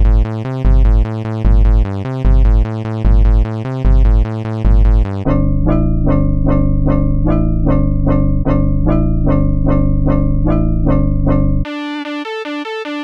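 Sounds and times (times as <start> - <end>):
pulsing bass: 0.0 - 11.7
synthesized keyboard music: 0.0 - 13.0.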